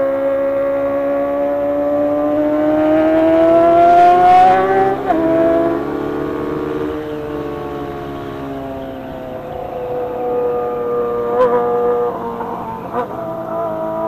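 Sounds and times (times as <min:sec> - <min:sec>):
motorcycle engine accelerating: 0:00.0 - 0:14.0
gear change: 0:00.1 - 0:14.0.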